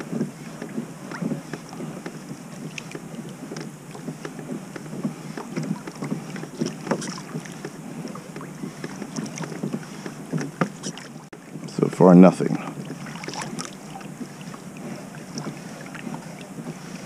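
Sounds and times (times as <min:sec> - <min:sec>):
water lapping against kayak: 0:00.0 - 0:17.0.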